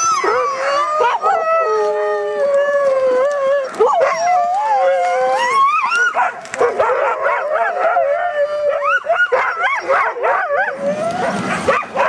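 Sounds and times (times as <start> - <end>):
huskies howling and yipping: 0.0 - 12.0.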